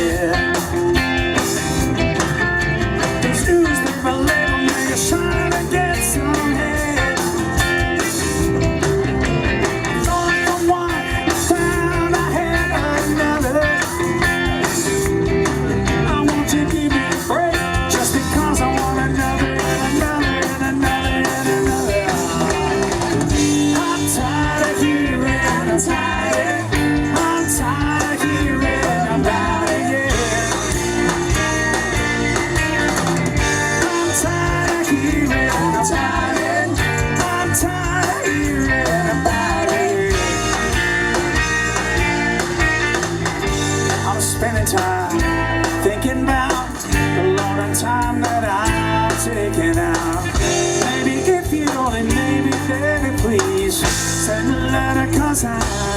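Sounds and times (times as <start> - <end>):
electric guitar: 0.0 - 55.9
rock band playing: 0.0 - 55.9.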